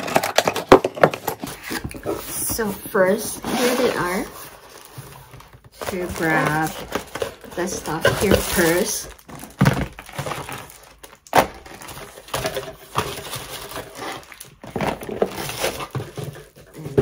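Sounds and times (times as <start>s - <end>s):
plastic crinkling and rustling: 0.0s - 17.0s.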